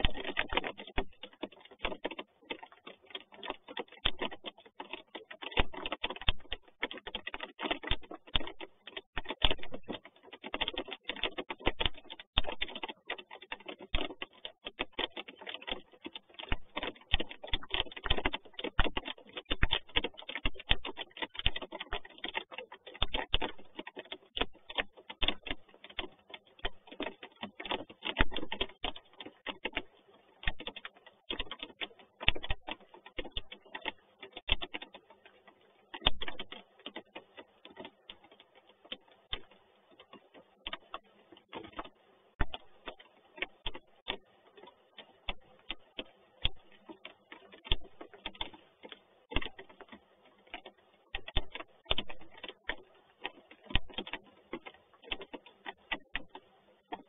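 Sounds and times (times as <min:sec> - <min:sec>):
raindrops ticking on nest box: 0:00.0 - 0:57.0.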